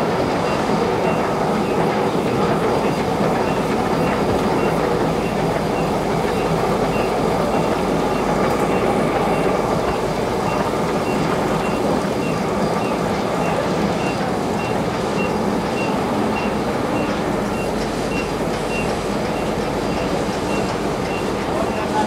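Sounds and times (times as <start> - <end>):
printing press clattering: 0.0 - 22.0.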